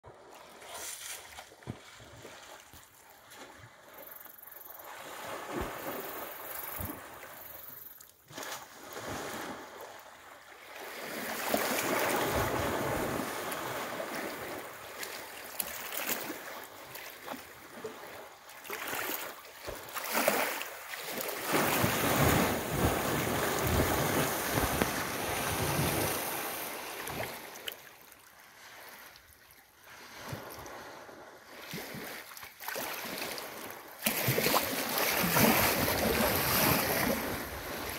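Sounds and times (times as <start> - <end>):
water sloshing and splashing: 0.1 - 37.9
waves lapping: 0.1 - 37.9.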